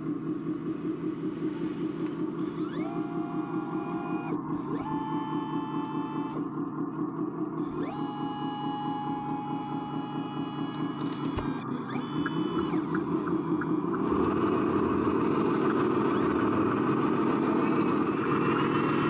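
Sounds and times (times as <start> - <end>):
pulsing diesel-like engine rumble: 0.0 - 19.0
electric motor whines: 1.4 - 6.6, 7.5 - 19.0.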